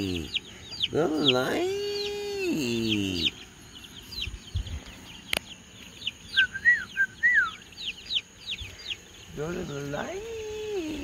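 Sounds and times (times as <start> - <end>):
chicks peeping: 0.0 - 11.0
lower rising and falling calls: 0.0 - 11.0.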